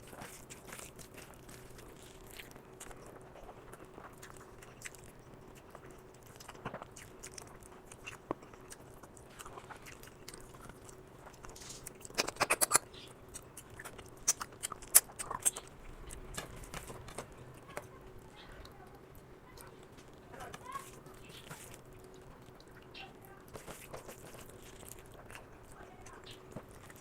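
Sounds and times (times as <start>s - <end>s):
person chewing food: 0.0s - 27.0s.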